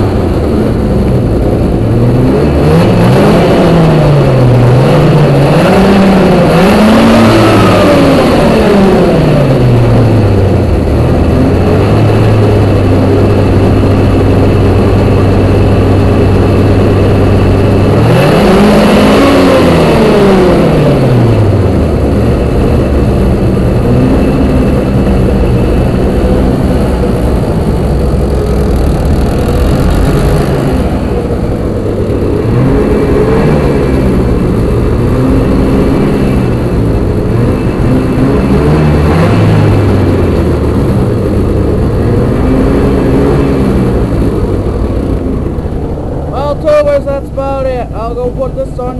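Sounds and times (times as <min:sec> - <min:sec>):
snowmobile engine idling and revving: 0:00.0 - 0:48.9.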